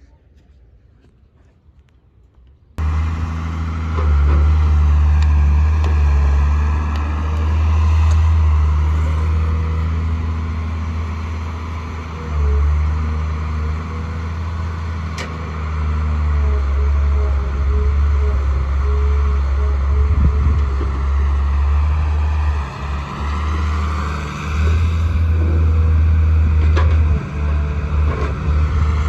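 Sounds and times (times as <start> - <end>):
heavy diesel engine humming: 2.8 - 29.0.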